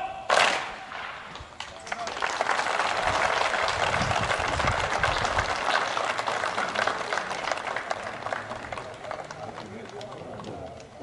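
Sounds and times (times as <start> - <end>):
crowd applauding: 1.6 - 11.0.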